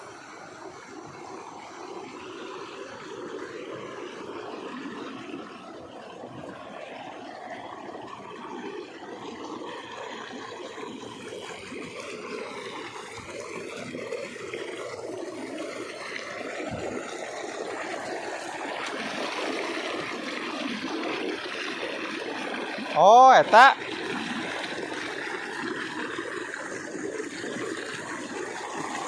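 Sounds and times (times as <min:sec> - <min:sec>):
running water rushing: 0:00.0 - 0:29.0.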